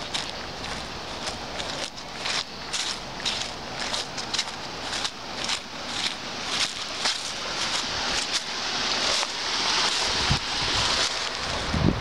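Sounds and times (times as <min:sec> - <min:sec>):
footsteps crunching dry leaves: 0:00.0 - 0:12.0
rustle of leaves and twigs: 0:00.0 - 0:12.0.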